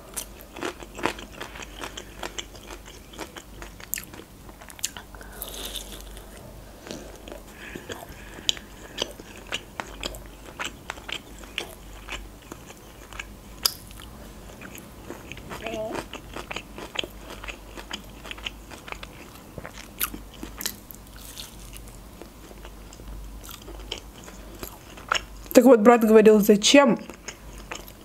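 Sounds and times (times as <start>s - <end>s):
crunchy chewing of fried chicken: 0.0s - 25.6s, 27.0s - 28.0s.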